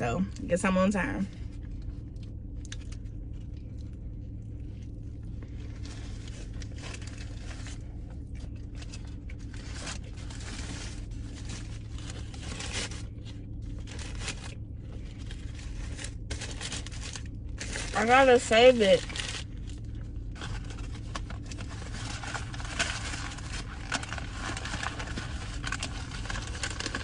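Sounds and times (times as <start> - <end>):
low hum: 0.0 - 27.0
paper wrapper crinkling: 5.3 - 27.0.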